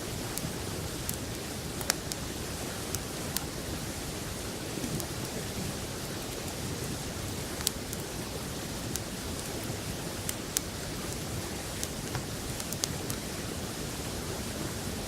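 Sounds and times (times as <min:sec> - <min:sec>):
campfire crackling and popping: 0:00.1 - 0:13.4.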